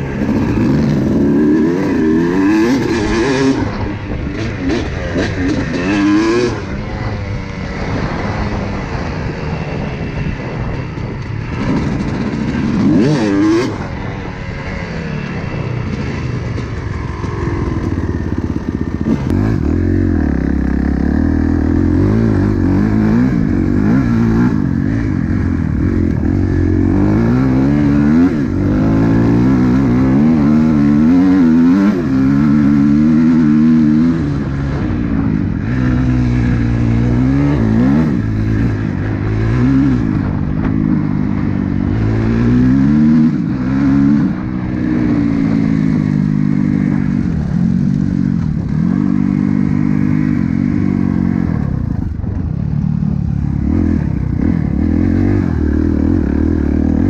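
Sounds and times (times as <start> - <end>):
dirt bike engine revving: 0.0 - 52.2, 52.8 - 57.0.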